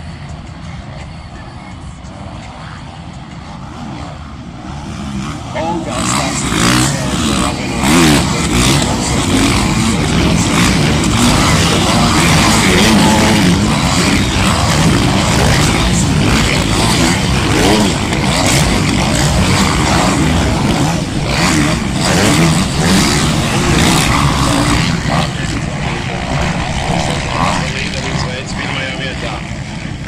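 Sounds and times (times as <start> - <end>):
motocross engines revving: 2.1 - 30.0.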